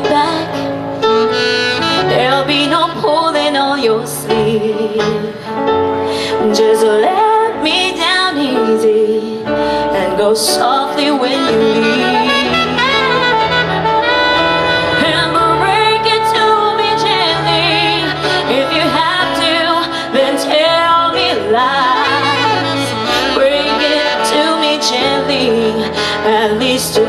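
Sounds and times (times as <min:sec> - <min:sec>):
saxophone solo with vibrato: 0:00.0 - 0:04.8, 0:07.7 - 0:27.0
band accompaniment: 0:00.0 - 0:06.3, 0:10.2 - 0:27.0.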